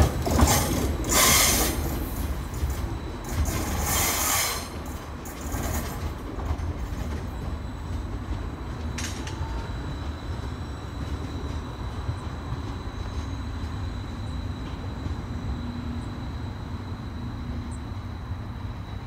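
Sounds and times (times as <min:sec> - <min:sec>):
train running away: 0:00.0 - 0:19.0.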